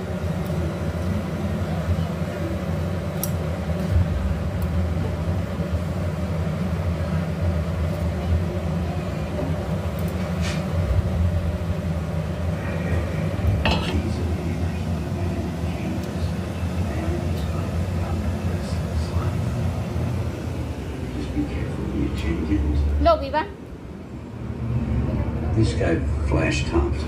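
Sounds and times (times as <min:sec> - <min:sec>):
gas burner flame rumbling: 0:00.0 - 0:27.0.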